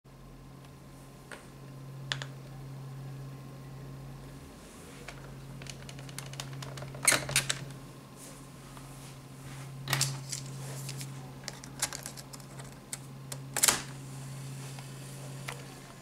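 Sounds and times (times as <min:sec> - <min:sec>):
steady low hum: 0:00.1 - 0:16.0.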